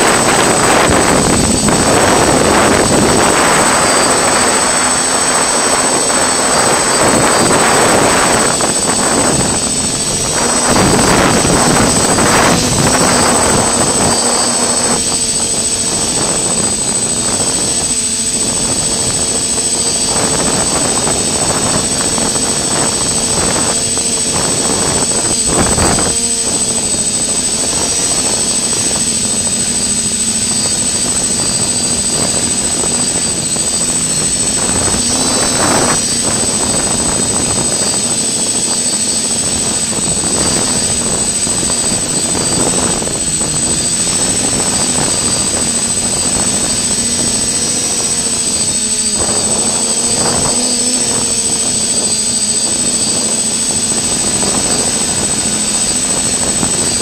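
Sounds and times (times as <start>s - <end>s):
drone propellers whining: 0.0s - 57.0s.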